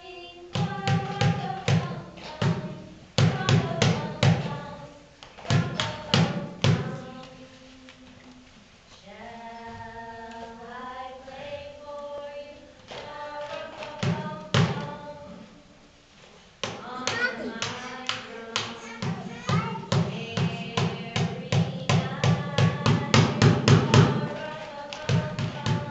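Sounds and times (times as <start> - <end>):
young children singing: 0.0 - 15.8, 16.6 - 25.9.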